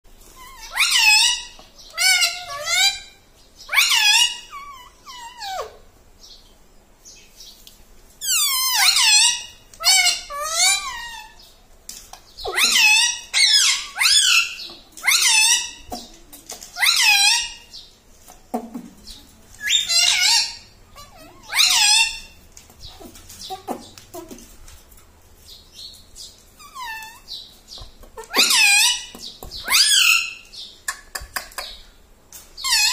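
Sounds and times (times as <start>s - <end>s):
parakeet calling: 0.4s - 6.4s, 8.2s - 11.5s, 12.1s - 17.9s, 19.0s - 24.5s, 25.4s - 30.9s, 32.6s - 32.9s.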